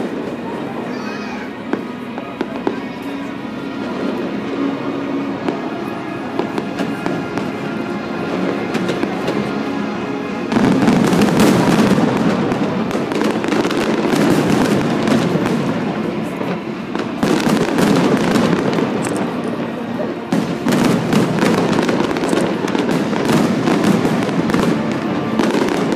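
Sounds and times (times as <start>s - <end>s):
fireworks crackling and banging: 0.0s - 25.9s
music: 0.0s - 25.9s.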